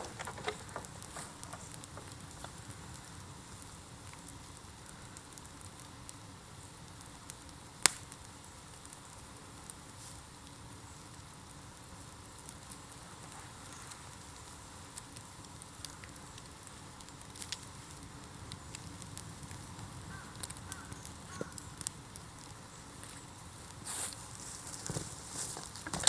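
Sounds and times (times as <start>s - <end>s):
bonfire rumble: 0.0s - 26.0s
fire crackles and pops: 0.0s - 26.0s.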